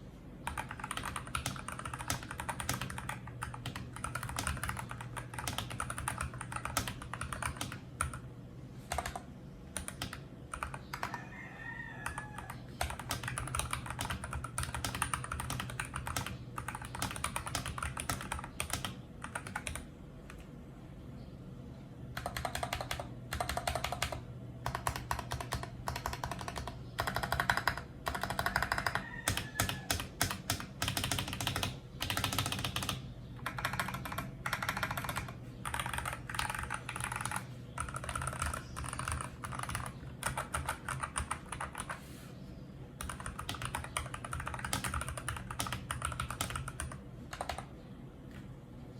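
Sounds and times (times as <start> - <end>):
low background hum: 0.0 - 48.9
mechanical keyboard keystrokes: 0.4 - 8.2, 12.8 - 20.4, 22.2 - 42.0, 43.0 - 47.7.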